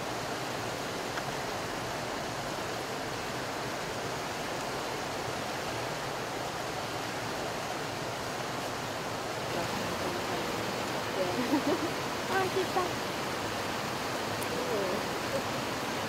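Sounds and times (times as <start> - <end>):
rush of flowing water: 0.0 - 16.0.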